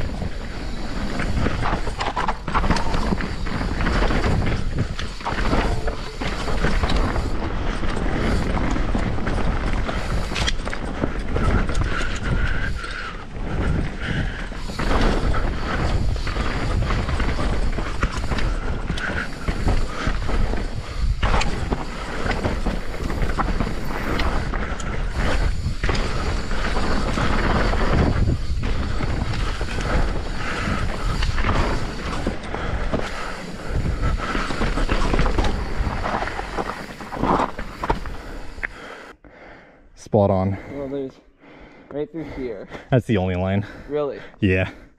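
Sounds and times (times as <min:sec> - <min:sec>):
mountain bike rattling and clattering: 0:00.0 - 0:39.2.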